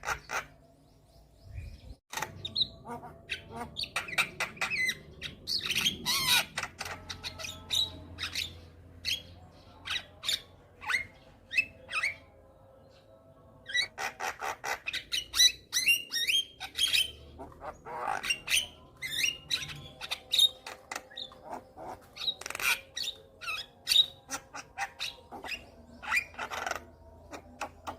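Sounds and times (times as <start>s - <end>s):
bird singing chirps and squawks: 0.0s - 27.9s.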